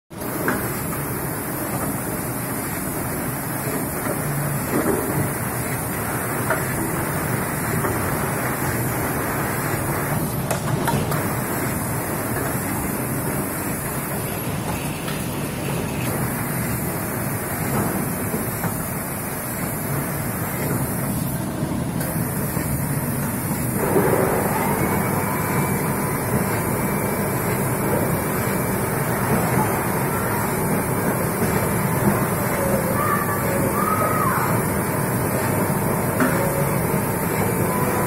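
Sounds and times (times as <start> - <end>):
filling machine running: 0.2 - 38.0.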